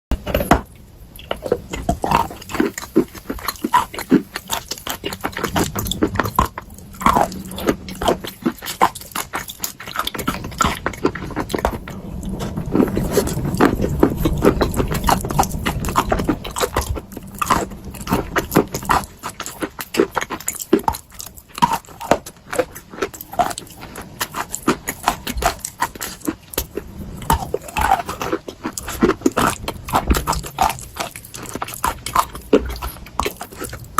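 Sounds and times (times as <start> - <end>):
crunchy chewing: 0.1 - 33.9.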